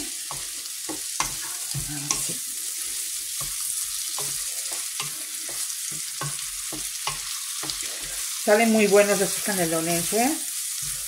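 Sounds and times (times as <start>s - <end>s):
food sizzling in a frying pan: 0.0s - 11.0s
wooden spatula scraping a pan: 0.1s - 10.1s.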